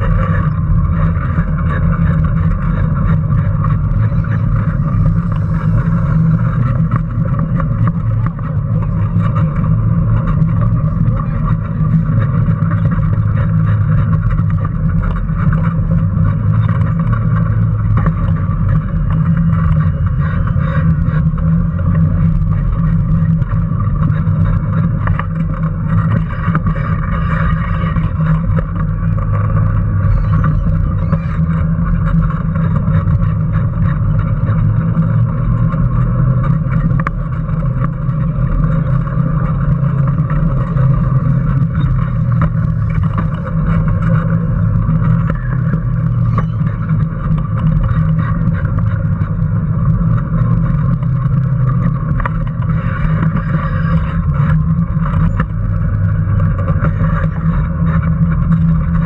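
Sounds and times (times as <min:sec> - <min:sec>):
electric motor drone: 0:00.0 - 0:59.0.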